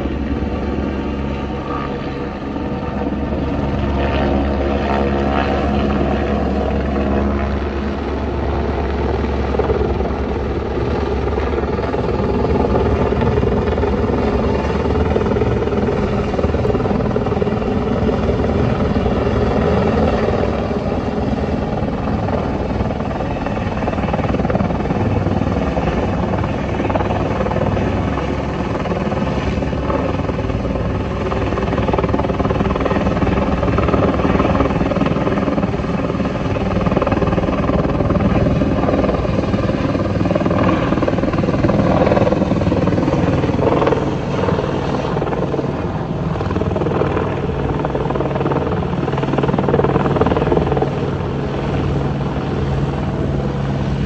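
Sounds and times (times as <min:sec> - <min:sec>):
helicopter rotor chop: 0:00.0 - 0:54.0.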